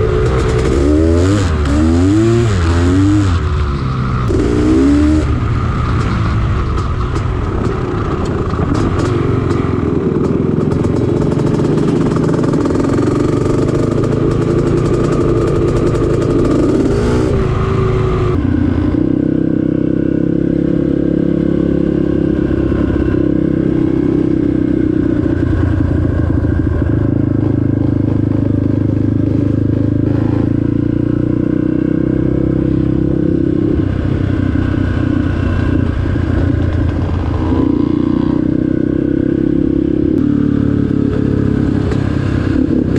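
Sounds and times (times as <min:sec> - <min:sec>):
off-road vehicle engine running: 0:00.0 - 0:42.9.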